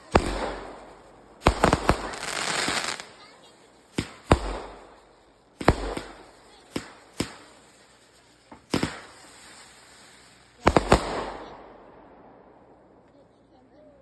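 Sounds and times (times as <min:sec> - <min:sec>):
fireworks bangs: 0:00.0 - 0:13.1.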